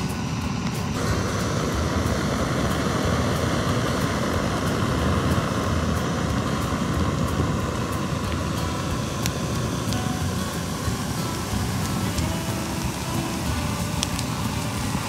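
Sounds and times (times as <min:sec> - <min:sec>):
faint crackles from frying pan: 0:00.0 - 0:15.0
gas stove burner roaring: 0:00.0 - 0:15.0.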